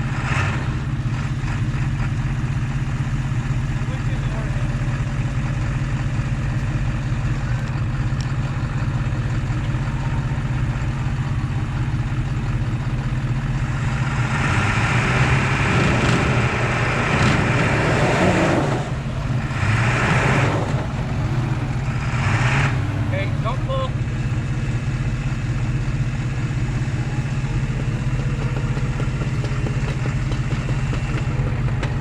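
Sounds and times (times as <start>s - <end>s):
truck engine revving: 0.0s - 32.0s
truck engines running: 0.0s - 32.0s.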